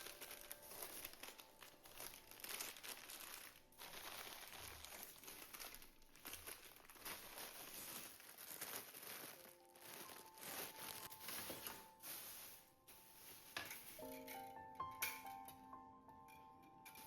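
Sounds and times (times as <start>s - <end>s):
faint crinkling and crackling: 0.0s - 15.2s.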